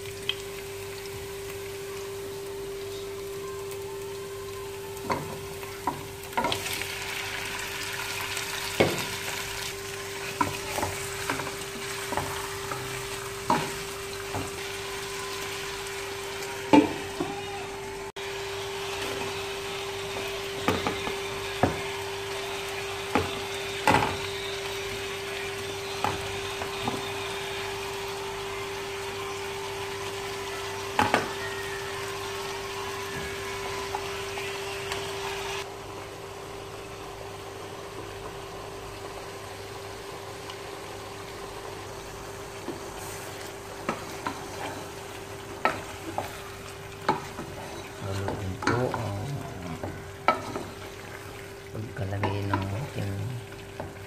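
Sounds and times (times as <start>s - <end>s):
chicken sizzling in pot: 0.0s - 54.0s.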